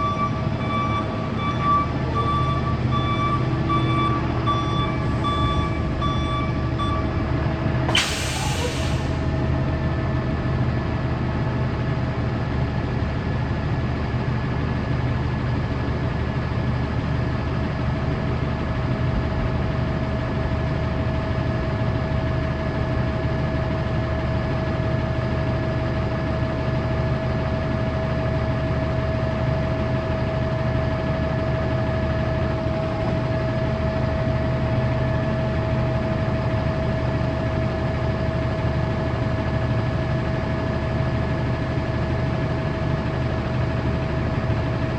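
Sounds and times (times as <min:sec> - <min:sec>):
industrial engine idling: 0:00.0 - 0:44.9.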